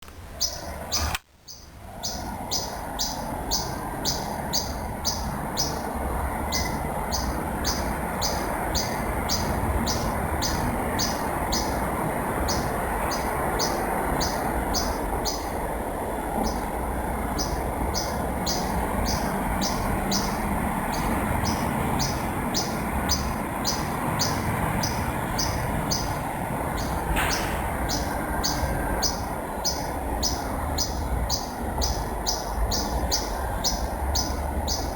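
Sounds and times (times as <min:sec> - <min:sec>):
bird chirping: 0:00.4 - 0:05.9, 0:06.5 - 0:11.8, 0:12.4 - 0:15.6, 0:16.4 - 0:16.7, 0:17.3 - 0:34.9.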